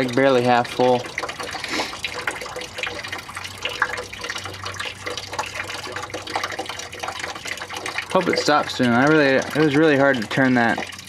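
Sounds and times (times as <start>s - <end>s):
liquid pouring and splashing: 0.0s - 11.0s.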